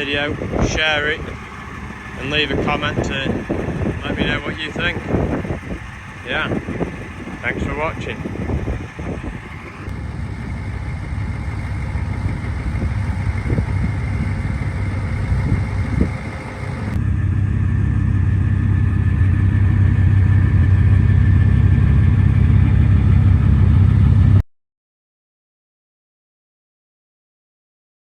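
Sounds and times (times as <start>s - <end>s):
vehicle engine droning: 0.0s - 24.4s.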